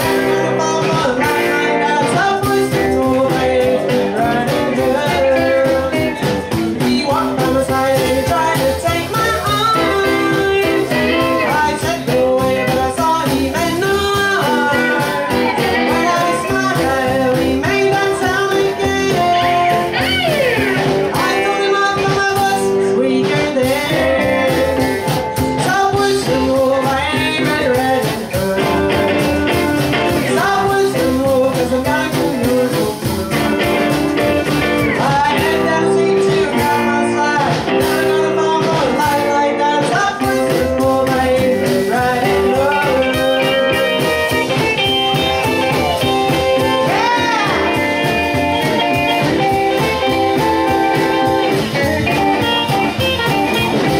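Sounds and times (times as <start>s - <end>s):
drums: 0.0s - 53.9s
electric guitar: 0.0s - 53.9s
upright bass: 0.0s - 53.9s
woman singing lead: 0.0s - 53.9s.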